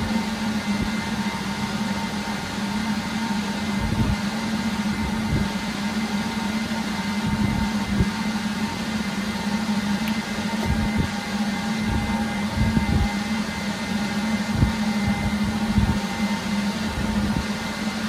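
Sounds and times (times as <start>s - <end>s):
cooling fans humming: 0.0s - 18.0s.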